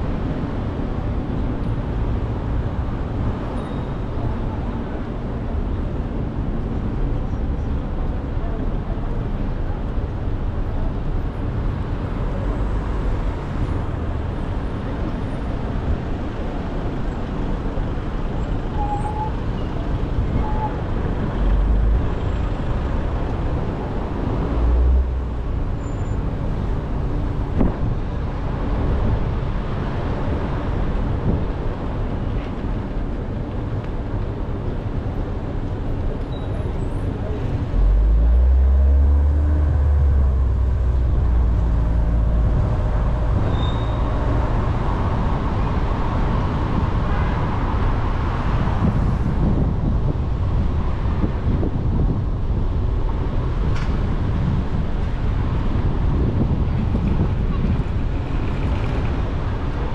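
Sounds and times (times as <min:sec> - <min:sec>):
heavy low vehicle rumbles: 0:00.0 - 0:59.9
road traffic rumble: 0:00.0 - 0:59.9.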